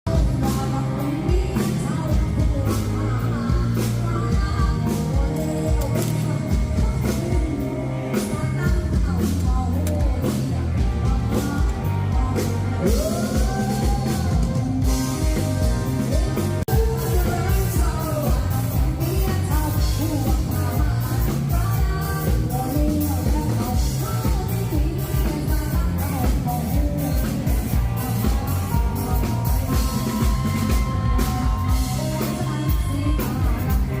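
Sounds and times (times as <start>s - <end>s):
bass: 0.0s - 34.0s
keyboard: 0.0s - 34.0s
person singing: 0.0s - 34.0s
steady drum beat: 3.6s - 34.0s.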